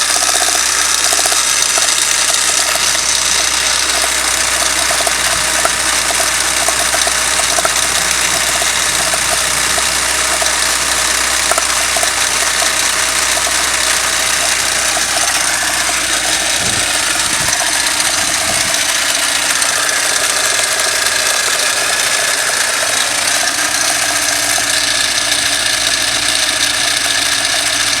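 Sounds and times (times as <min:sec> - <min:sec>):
car engine running with a knock: 0:00.0 - 0:28.0.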